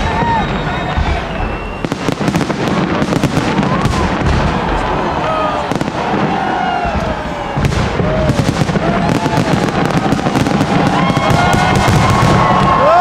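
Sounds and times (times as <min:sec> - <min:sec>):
crowd voices: 0:00.0 - 0:13.0
fireworks bangs and crackling: 0:00.0 - 0:13.0.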